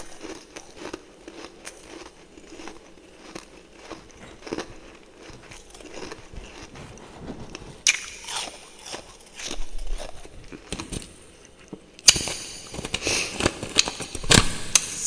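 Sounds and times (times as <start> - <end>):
chewing and crunching frost: 0.0 - 12.1.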